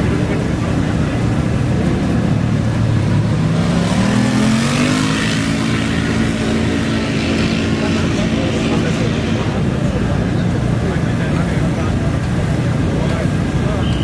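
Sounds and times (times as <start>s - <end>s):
dirt bike engine revving: 0.0s - 13.6s.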